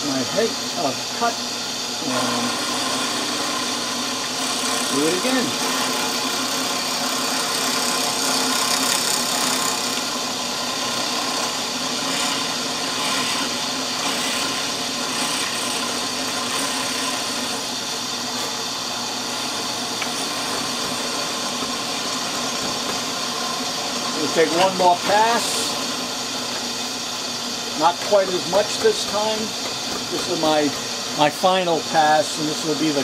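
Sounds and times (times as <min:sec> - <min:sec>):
drill press motor hum: 0:00.0 - 0:33.0.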